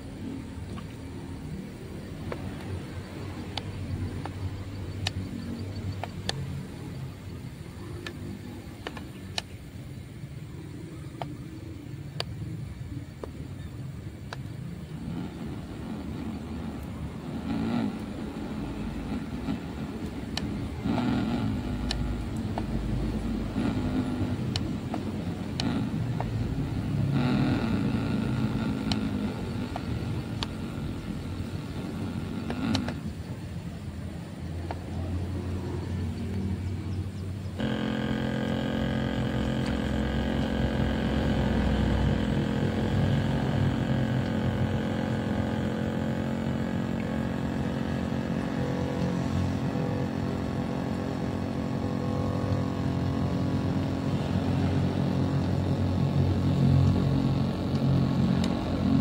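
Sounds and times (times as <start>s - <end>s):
model boat motor whining: 0.0s - 59.0s
clicks: 2.0s - 9.6s, 11.1s - 12.5s, 14.2s - 33.4s, 34.5s - 59.0s.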